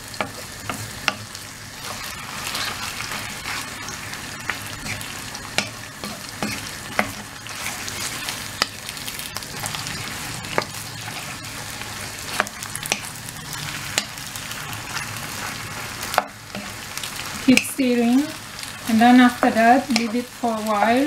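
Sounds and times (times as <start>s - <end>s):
meat and onion sizzling in wok: 0.0s - 21.0s.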